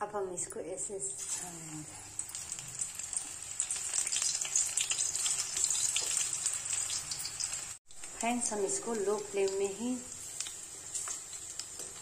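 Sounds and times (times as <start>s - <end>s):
batter sizzling in hot oil: 1.2s - 12.0s.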